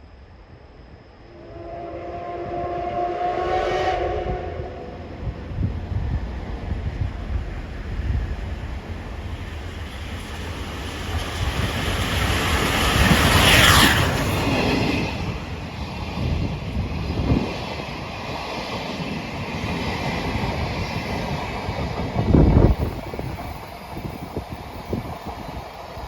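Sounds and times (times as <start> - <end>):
steam train passing at speed: 0.2 - 26.0
wind buffeting microphone: 3.9 - 26.0.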